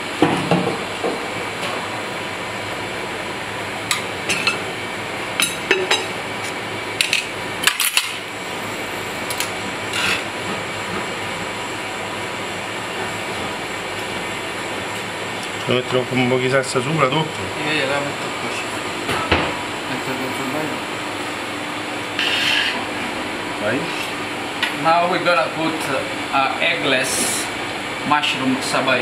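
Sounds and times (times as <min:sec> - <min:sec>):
kitchen ventilation hum: 0:00.0 - 0:29.0.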